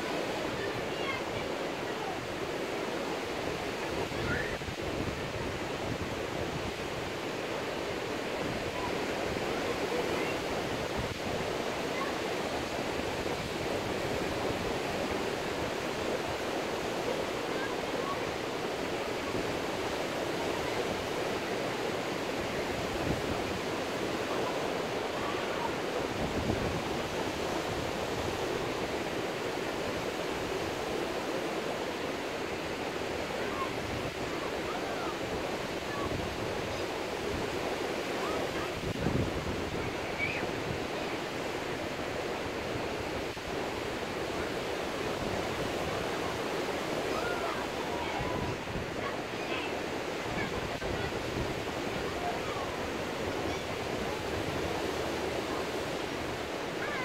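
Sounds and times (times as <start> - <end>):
ocean surf on beach: 0.0 - 57.0.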